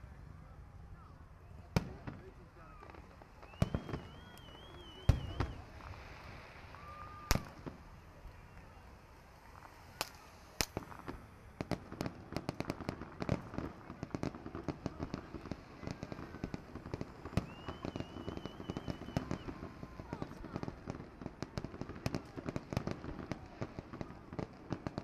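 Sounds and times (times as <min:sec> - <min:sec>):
firework bangs: 0:01.6 - 0:25.0
firework crackling pops: 0:01.6 - 0:25.0.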